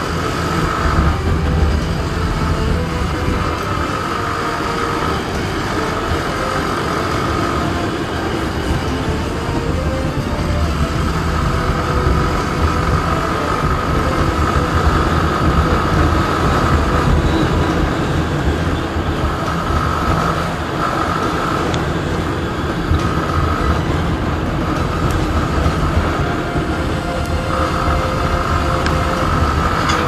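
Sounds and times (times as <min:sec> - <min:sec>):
motorcycle engine running: 0:00.0 - 0:30.0
wind and road rush: 0:00.0 - 0:30.0.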